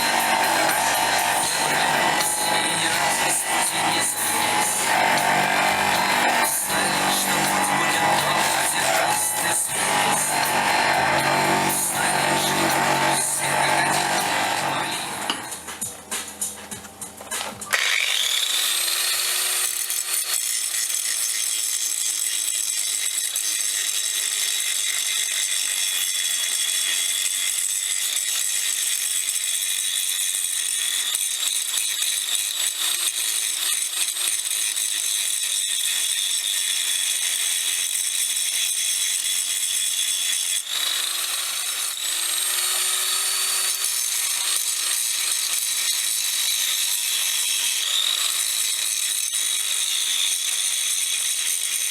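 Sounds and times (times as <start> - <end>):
power tool motor spinning: 0.0 - 15.7, 17.4 - 51.9.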